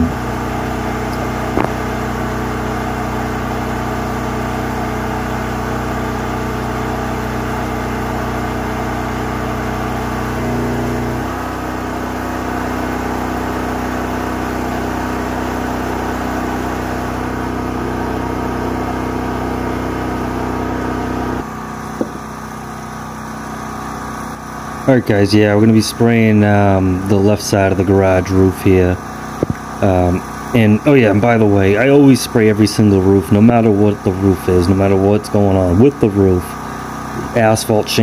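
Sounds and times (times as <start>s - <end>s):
engine-driven pump running: 0.0s - 38.0s.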